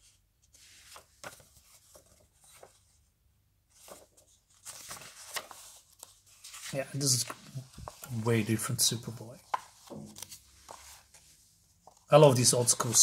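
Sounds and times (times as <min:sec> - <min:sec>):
comic book pages turning: 0:00.5 - 0:03.0, 0:03.7 - 0:13.0.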